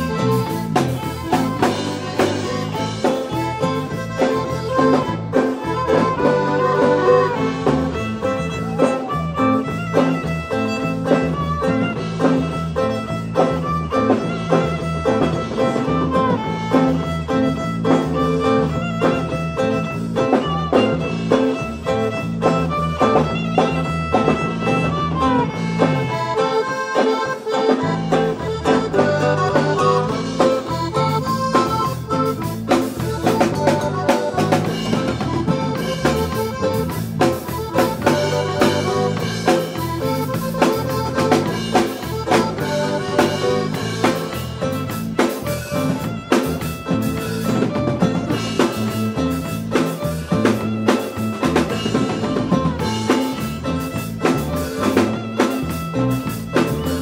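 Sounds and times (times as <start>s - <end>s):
button accordion: 0.0s - 57.0s
drum kit dance beat: 0.0s - 57.0s
electric bass: 0.0s - 57.0s
violin: 0.0s - 57.0s.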